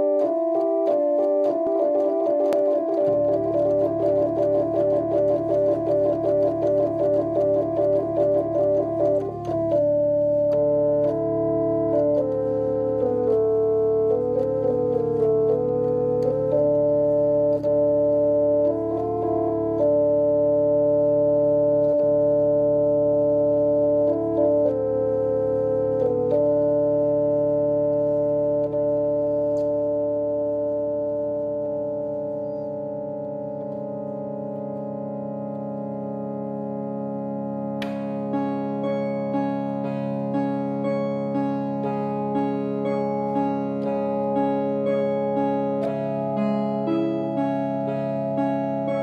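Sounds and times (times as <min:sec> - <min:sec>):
organ music: 0:00.0 - 0:49.0.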